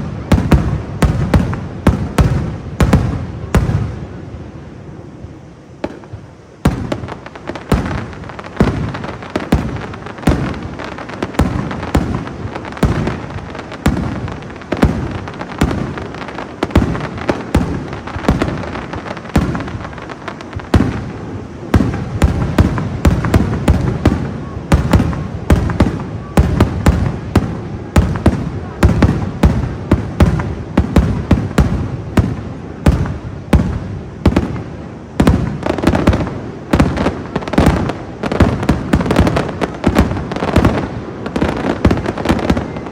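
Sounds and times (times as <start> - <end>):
fireworks exploding: 0.0 - 42.9.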